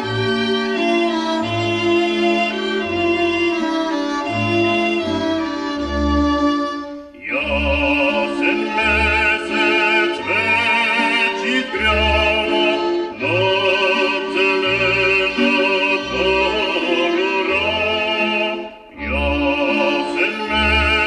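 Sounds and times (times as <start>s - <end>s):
instrumental folk music: 0.0s - 21.0s.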